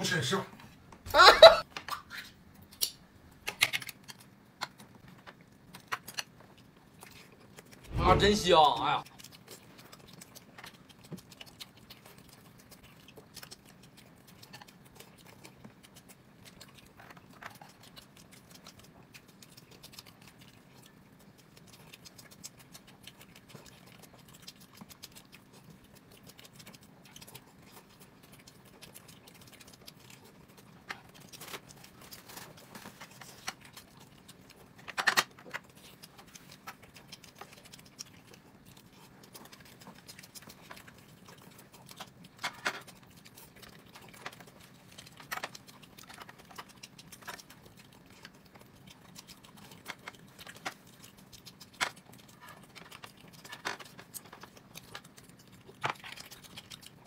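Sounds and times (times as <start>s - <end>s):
person chewing: 0.6s - 8.2s, 8.8s - 57.0s.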